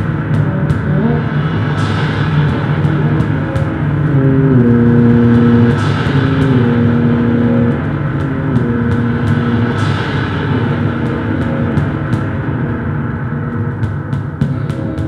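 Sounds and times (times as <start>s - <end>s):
held synth tones: 0.0s - 15.0s
loud low synth drone: 0.0s - 15.0s.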